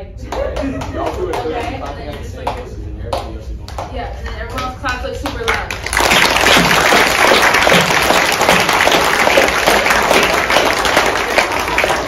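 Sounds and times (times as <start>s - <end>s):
audience clapping loudly: 0.3s - 12.0s.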